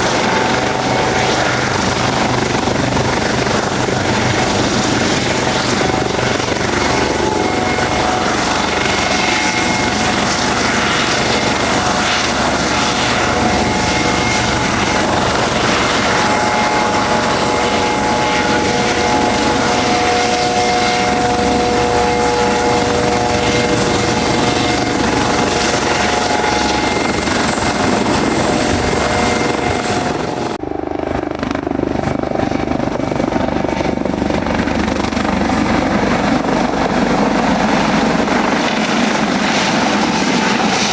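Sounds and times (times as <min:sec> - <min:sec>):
helicopter rotor noise: 0:00.0 - 0:40.9
steady tones: 0:00.1 - 0:40.9.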